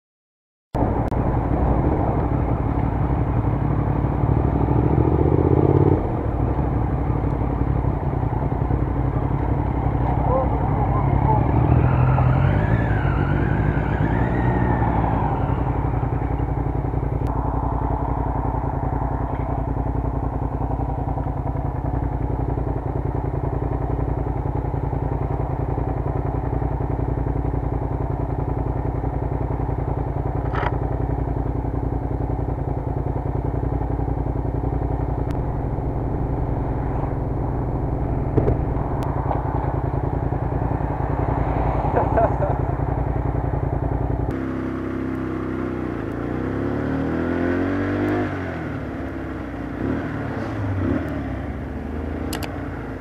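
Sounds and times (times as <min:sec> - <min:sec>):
motorcycle engine at low revs: 0:00.8 - 0:53.0.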